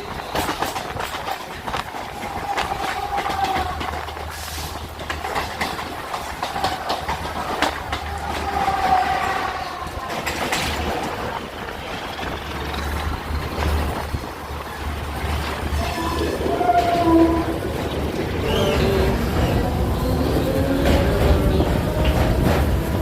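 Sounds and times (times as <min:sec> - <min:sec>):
train wheels clicking on rails: 0:00.0 - 0:23.0.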